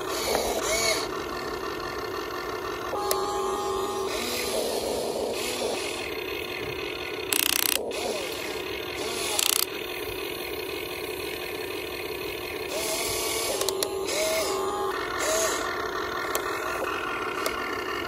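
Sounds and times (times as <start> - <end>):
loud rasping bursts: 0.0 - 1.5, 2.9 - 18.0
toy excavator motors whirring: 0.0 - 18.0.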